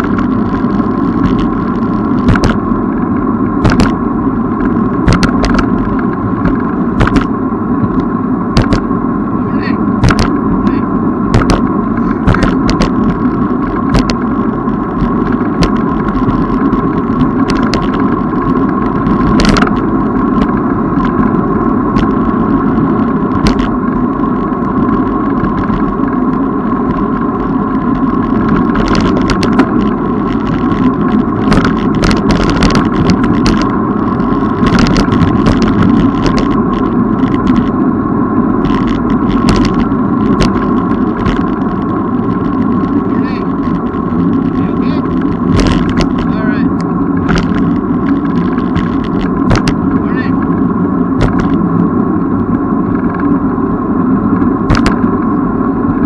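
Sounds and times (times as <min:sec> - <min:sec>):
bicycle clicks and knocks: 0:00.0 - 0:02.6, 0:03.6 - 0:04.0, 0:04.6 - 0:08.8, 0:10.0 - 0:10.4, 0:11.3 - 0:23.8, 0:24.7 - 0:37.7, 0:38.6 - 0:53.3, 0:54.3 - 0:55.3
bicycle riding noise: 0:00.0 - 0:56.0.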